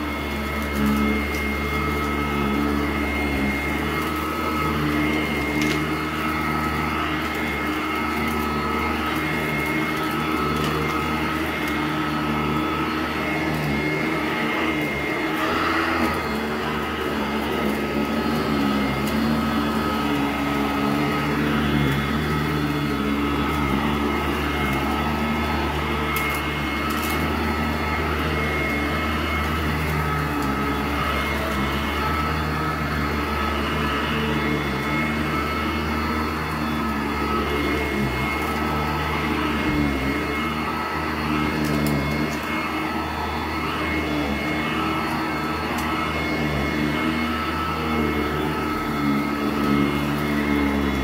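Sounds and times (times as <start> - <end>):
vacuum cleaner running: 0.0 - 51.0.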